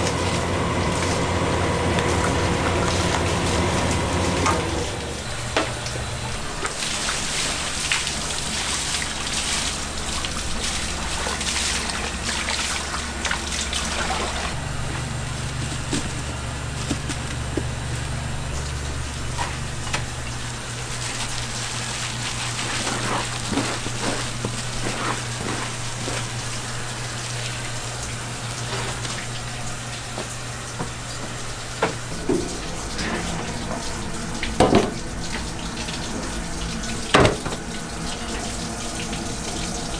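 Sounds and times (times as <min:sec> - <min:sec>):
machinery low hum: 0:00.0 - 0:39.9.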